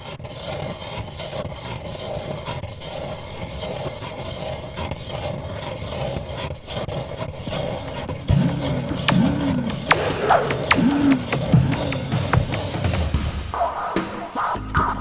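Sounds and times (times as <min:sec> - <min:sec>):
ice auger grinding through ice: 0:00.0 - 0:12.9.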